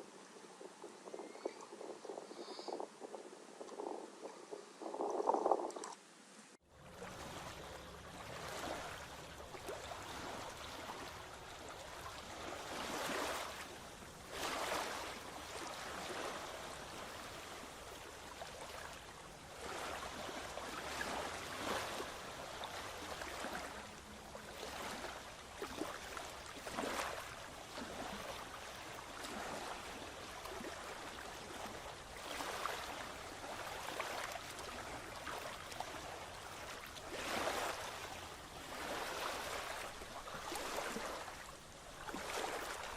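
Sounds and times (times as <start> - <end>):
small waves lapping on beach: 0.0 - 42.9.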